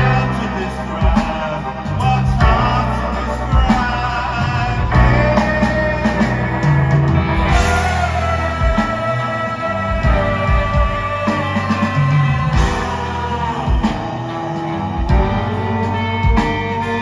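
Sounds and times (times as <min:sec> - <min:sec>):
bass guitar: 0:00.0 - 0:17.0
drums: 0:00.0 - 0:17.0
electric guitar: 0:00.0 - 0:17.0
man singing: 0:00.0 - 0:17.0.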